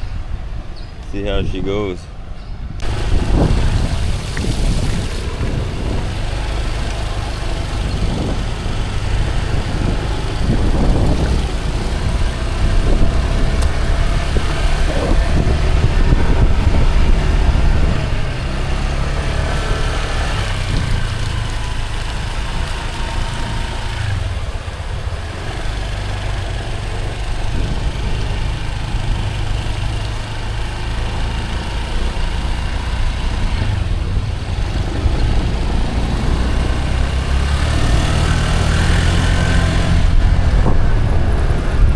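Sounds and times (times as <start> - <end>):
motor scooter engine rumbling: 0.0 - 41.9.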